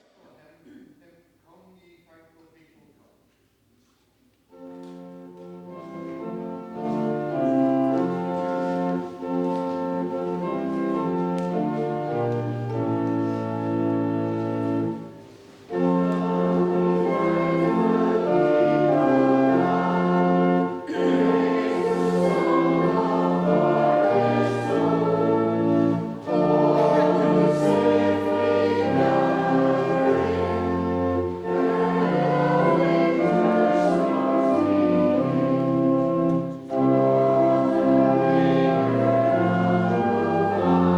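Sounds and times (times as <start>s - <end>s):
slow sustained hymn-like chords: 5.7s - 40.9s.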